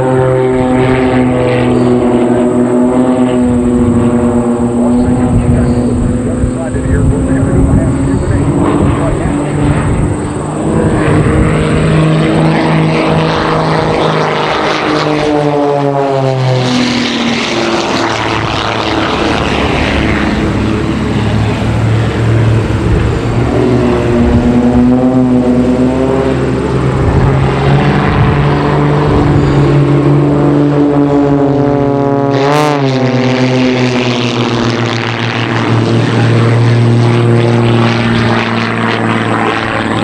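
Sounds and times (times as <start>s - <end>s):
biplane engines running hard: 0.0s - 40.0s.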